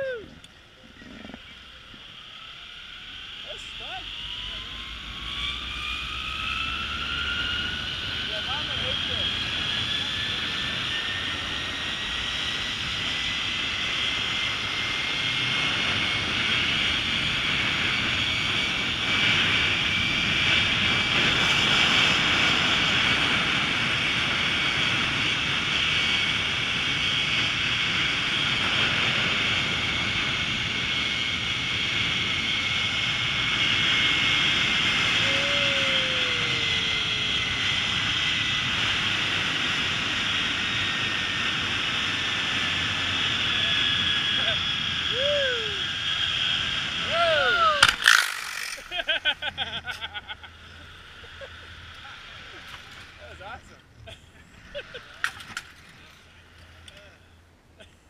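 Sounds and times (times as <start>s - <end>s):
zip-line pulleys whining on cable: 0.0s - 57.0s.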